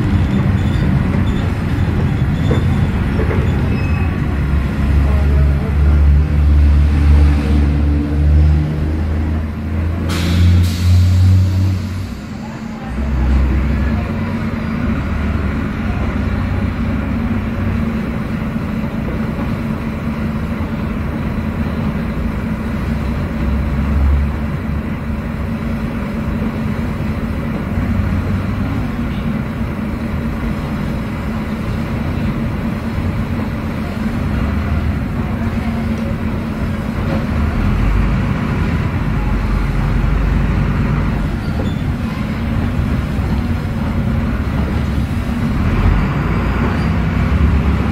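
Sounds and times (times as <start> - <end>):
bus diesel engine droning: 0.0 - 47.9.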